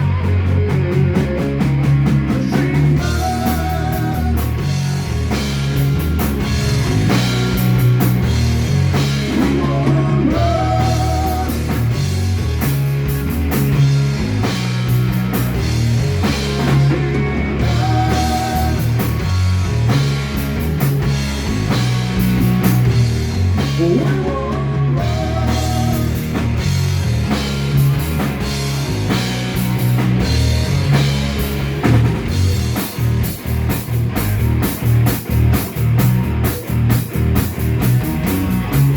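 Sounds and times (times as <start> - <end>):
distorted electric guitar: 0.0 - 38.9
rock band playing: 0.0 - 38.9.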